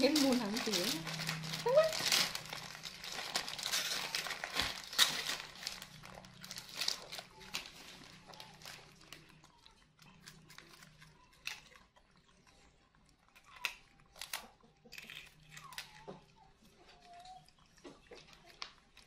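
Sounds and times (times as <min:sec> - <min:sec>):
monkeys crunching rice crackers: 0:00.0 - 0:19.0
quiet chewing: 0:00.1 - 0:19.0.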